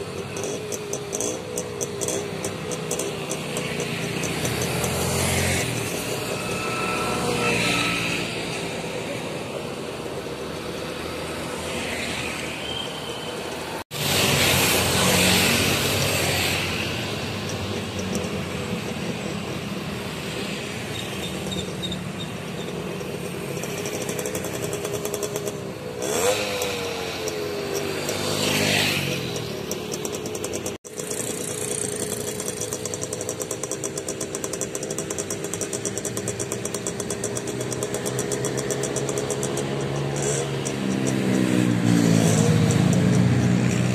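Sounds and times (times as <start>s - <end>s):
cars passing: 0.0s - 43.9s
motorcycles passing: 0.0s - 43.9s
trucks and buses passing: 0.0s - 43.9s.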